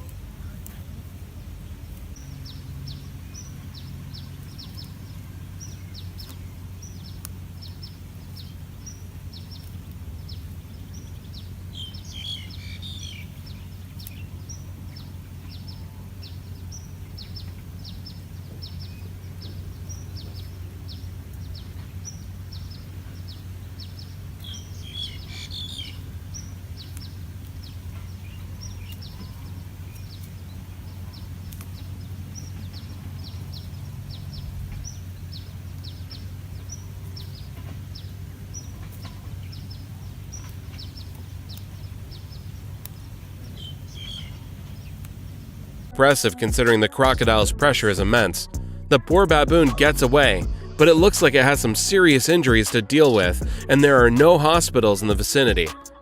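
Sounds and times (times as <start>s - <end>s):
birds chirping: 0.0s - 56.0s
low steady rumble: 0.0s - 56.0s.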